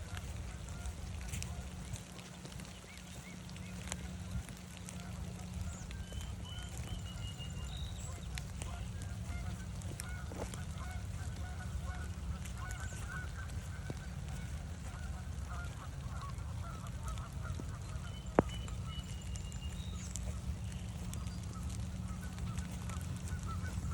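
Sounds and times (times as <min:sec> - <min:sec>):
geese honking: 0:00.0 - 0:23.9
wind rumble on microphone: 0:00.0 - 0:23.9.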